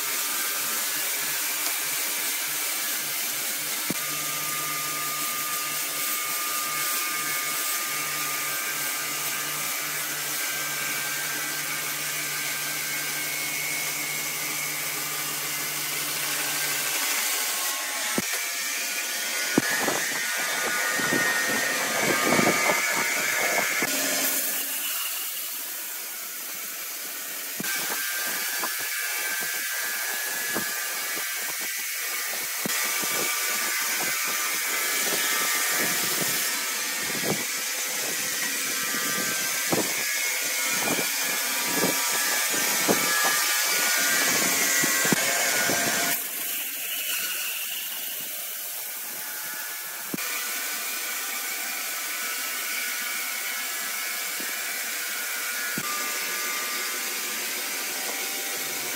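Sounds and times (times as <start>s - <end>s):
band saw cutting log: 0.0s - 58.9s.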